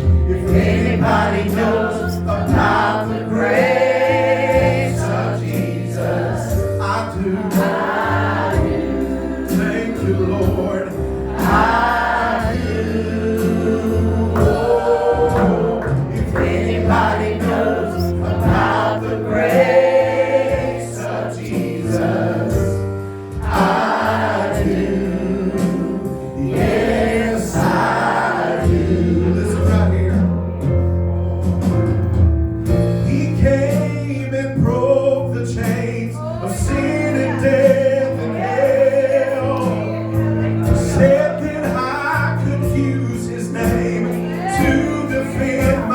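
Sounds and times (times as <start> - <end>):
drum hits: 0.0 - 3.9, 7.4 - 35.0, 39.4 - 43.0, 43.6 - 45.9
group singing gospel: 0.0 - 30.6, 32.7 - 45.9
sustained bass notes: 0.0 - 45.9.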